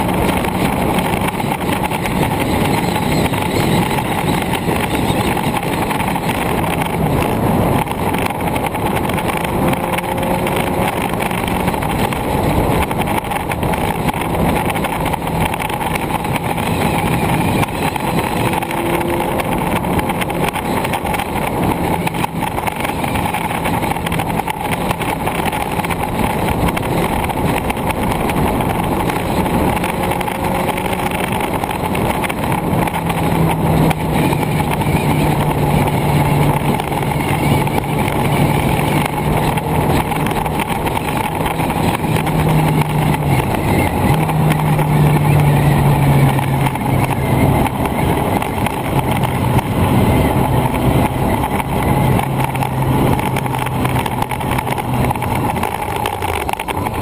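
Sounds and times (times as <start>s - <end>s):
road noise: 0.0s - 57.0s
wind noise: 0.0s - 57.0s.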